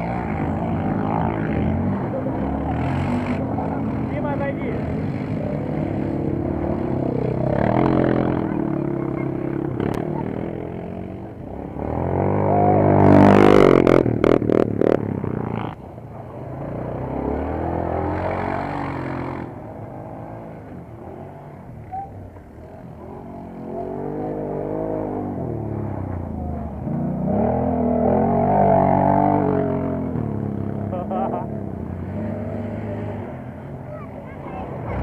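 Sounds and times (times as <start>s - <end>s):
quad bike engines revving: 0.0s - 35.0s.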